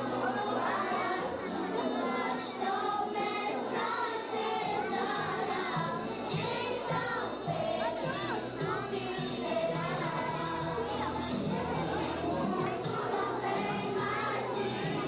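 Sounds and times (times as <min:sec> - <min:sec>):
young voices singing gospel: 0:00.0 - 0:15.0.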